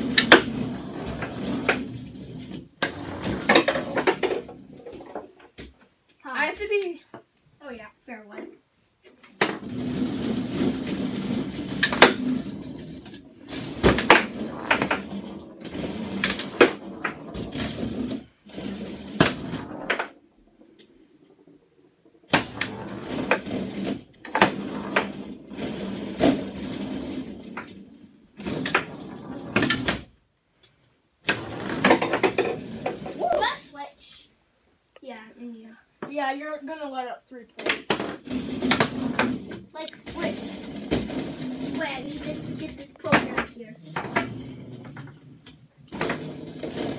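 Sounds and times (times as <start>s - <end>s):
foosball rods rattling: 0.0s - 5.9s, 9.1s - 30.2s, 31.2s - 33.8s, 37.6s - 46.9s.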